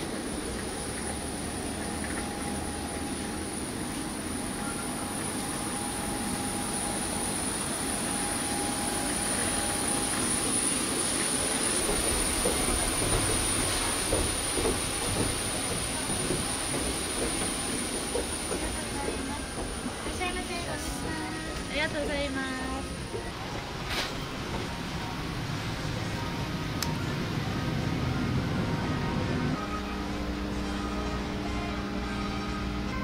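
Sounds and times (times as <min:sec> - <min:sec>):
airliner cabin air conditioning: 0:00.0 - 0:33.0.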